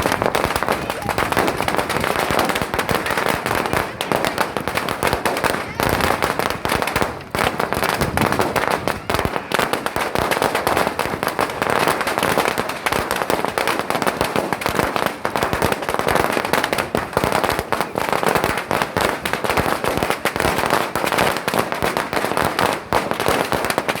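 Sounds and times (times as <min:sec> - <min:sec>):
string of firecrackers: 0:00.0 - 0:24.0.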